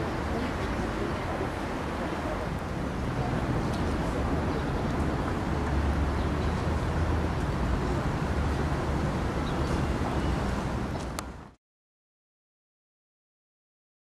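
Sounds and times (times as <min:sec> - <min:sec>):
city ambience with low rumble: 0:00.0 - 0:11.6.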